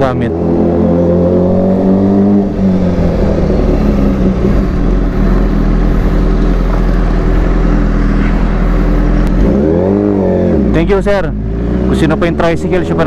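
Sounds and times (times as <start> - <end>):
motorcycle engine rumbling and revving: 0.0 - 13.0.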